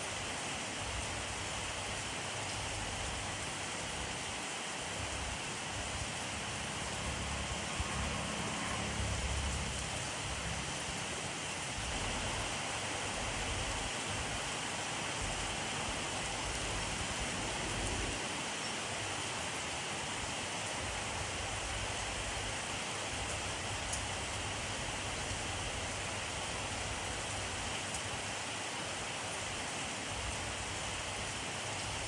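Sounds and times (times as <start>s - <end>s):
rain pattering: 0.9s - 28.4s.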